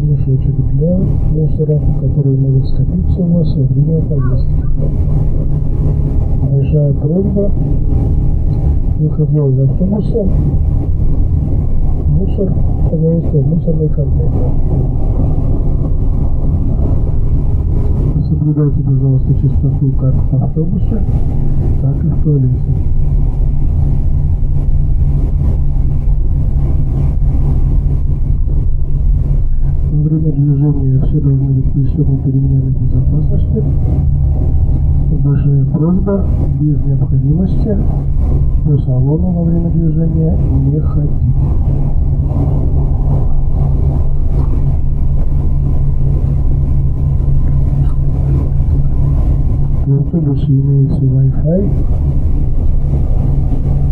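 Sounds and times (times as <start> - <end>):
bus engine drone: 0.0 - 53.9
road noise: 0.0 - 53.9.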